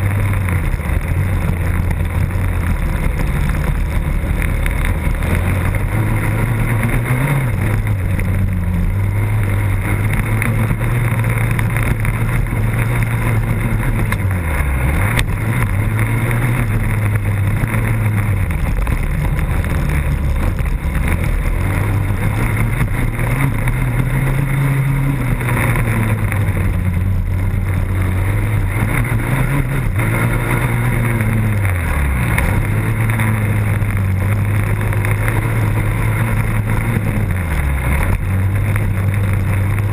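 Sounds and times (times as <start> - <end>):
motocross bike engine running hard: 0.0 - 39.9.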